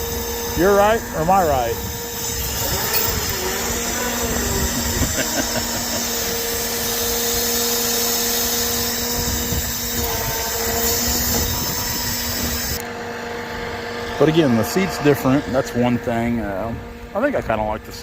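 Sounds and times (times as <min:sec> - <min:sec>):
hydraulics whining: 0:00.0 - 0:18.0.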